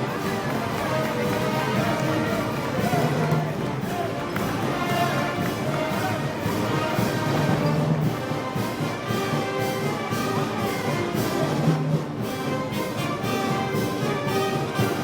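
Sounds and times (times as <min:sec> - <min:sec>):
brass instruments playing: 0:00.0 - 0:15.0
percussion beat: 0:00.0 - 0:15.0.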